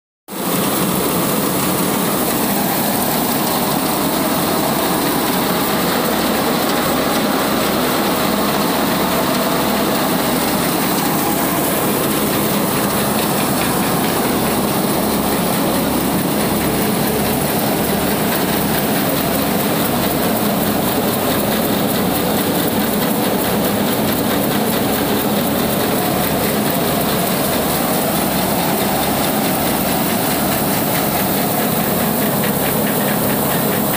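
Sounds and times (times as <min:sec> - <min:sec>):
tractor engine and rice mill running: 0:00.3 - 0:33.9.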